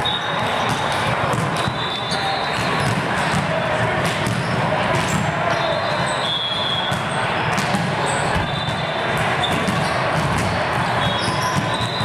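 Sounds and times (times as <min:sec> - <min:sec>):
volleyballs struck and bouncing: 0:00.0 - 0:12.0.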